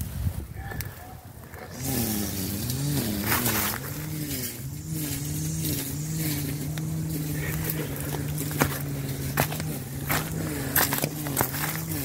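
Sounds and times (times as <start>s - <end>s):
vehicle engine running: 1.3s - 12.0s.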